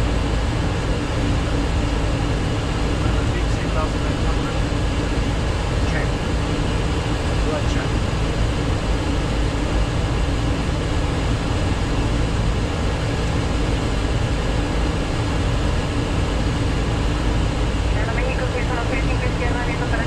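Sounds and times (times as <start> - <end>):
aircraft engine hum: 0.0 - 20.0
low rumble: 0.0 - 20.0.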